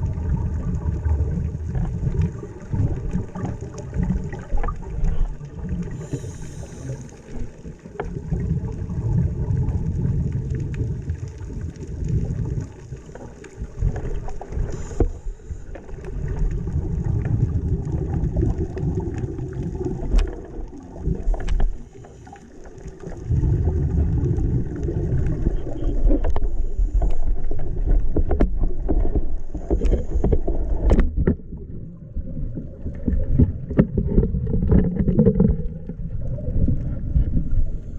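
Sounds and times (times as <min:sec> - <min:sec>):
underwater rumbling and bubbling: 0:00.0 - 0:37.9.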